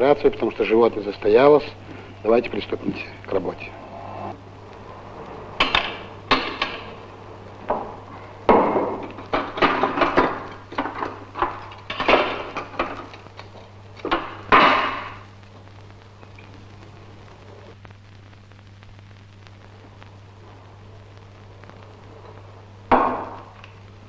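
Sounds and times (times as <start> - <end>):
mains hum: 0.0 - 24.0.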